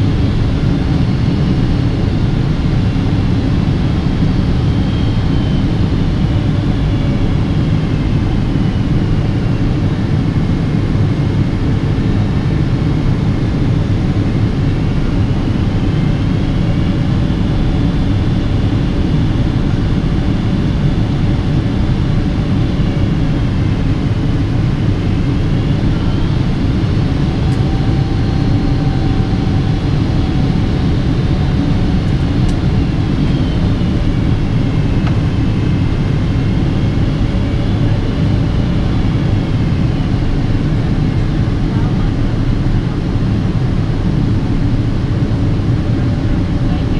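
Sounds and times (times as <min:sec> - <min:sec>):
aircraft cabin engine rumble: 0:00.0 - 0:46.9.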